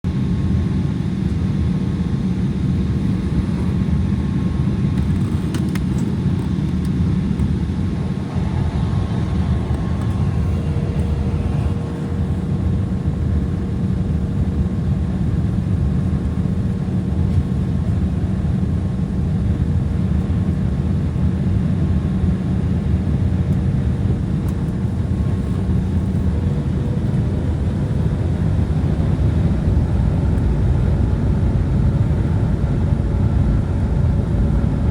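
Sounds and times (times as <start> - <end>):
jet engine rumble in cabin: 0.1 - 34.9
faint steady whine: 0.2 - 34.9.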